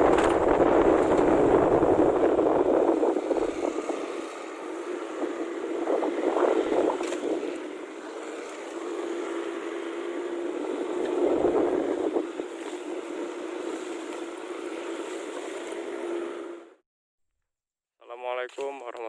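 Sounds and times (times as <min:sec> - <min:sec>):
small engine running: 0:00.1 - 0:16.8.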